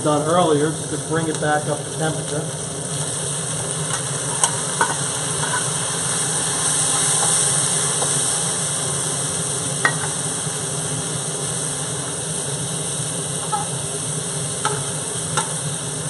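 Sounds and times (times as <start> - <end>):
chicken sizzling in a wok: 0.0 - 16.0.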